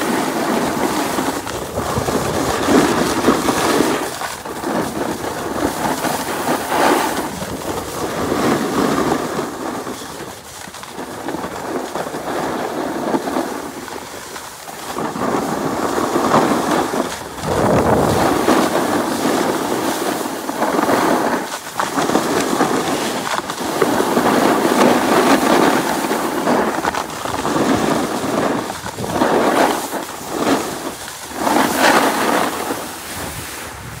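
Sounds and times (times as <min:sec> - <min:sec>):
snowboard scraping packed snow: 0:00.0 - 0:34.0.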